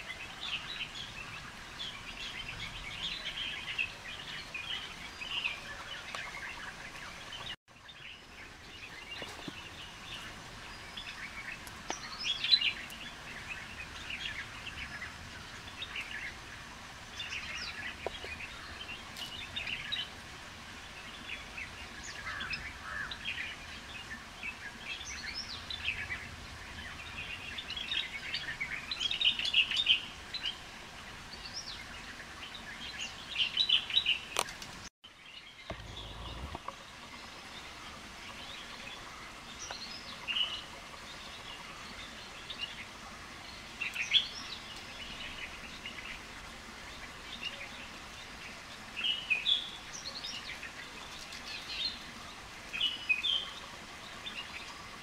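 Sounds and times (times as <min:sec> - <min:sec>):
forest birds chirping: 0:00.0 - 0:55.0.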